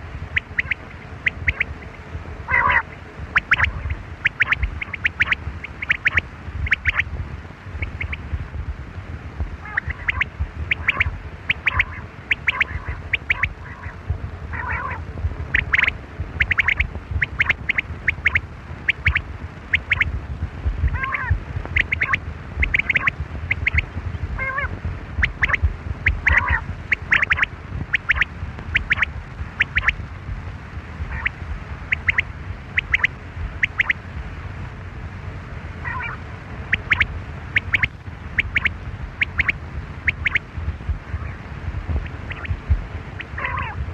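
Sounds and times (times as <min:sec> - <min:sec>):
steady low rumble: 0:00.0 - 0:43.9
quail calling: 0:00.3 - 0:07.1, 0:07.8 - 0:08.2, 0:09.6 - 0:20.1, 0:20.9 - 0:30.0, 0:31.1 - 0:34.0, 0:35.8 - 0:40.4, 0:42.0 - 0:42.6, 0:43.2 - 0:43.8.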